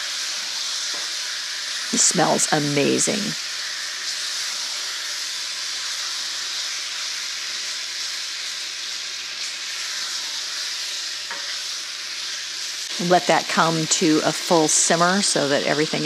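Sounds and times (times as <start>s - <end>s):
meat and onions sizzling in a pot: 0.0s - 16.0s.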